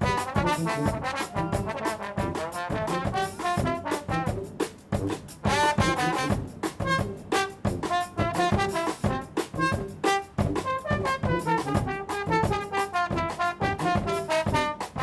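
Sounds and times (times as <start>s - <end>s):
drum kit: 0.0s - 15.0s
trombones and trumpets: 0.0s - 15.0s.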